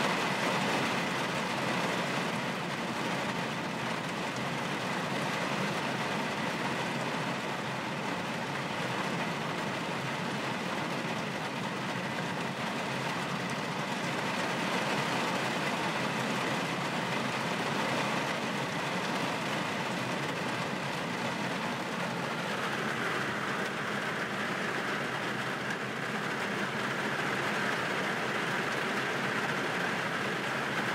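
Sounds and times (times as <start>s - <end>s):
road and tyre noise: 0.0s - 30.9s.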